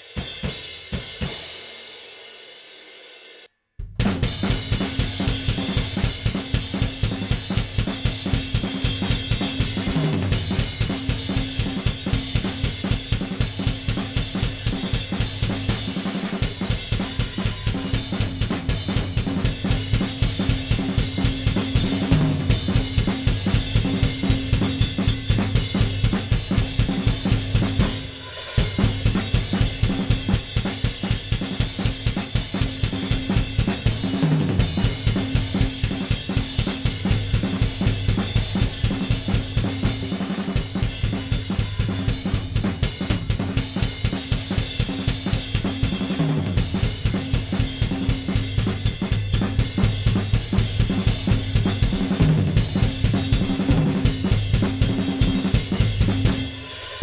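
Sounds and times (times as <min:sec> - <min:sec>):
rock drum kit beat: 0:00.0 - 0:57.0.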